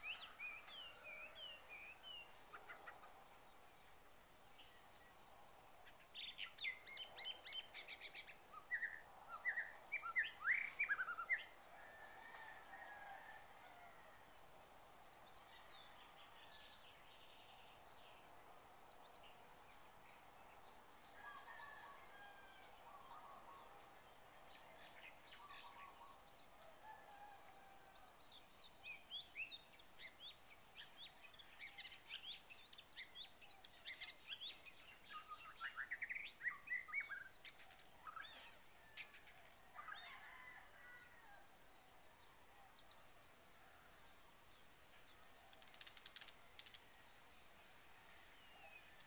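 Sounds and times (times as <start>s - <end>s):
small birds chirping: 0.0s - 11.7s, 14.5s - 40.5s, 41.7s - 49.0s
low background hiss: 0.0s - 49.0s.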